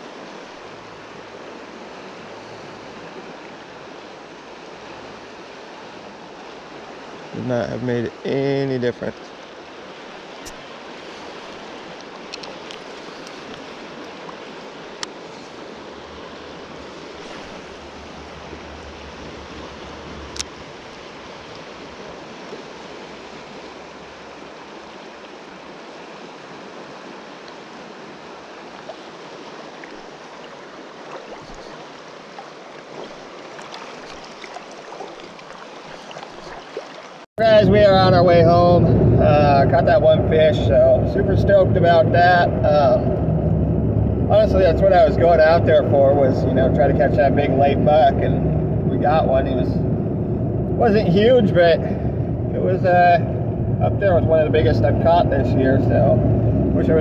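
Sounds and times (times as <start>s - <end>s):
river rushing: 0.0s - 57.0s.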